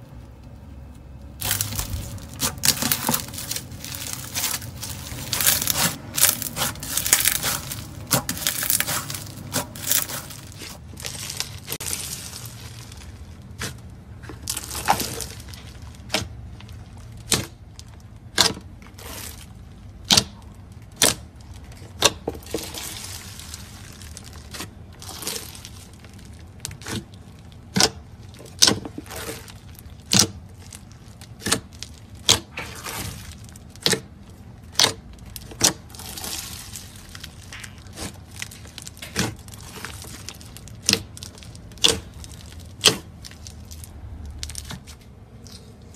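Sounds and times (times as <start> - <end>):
slime crunching and crackling: 0.5 - 45.9.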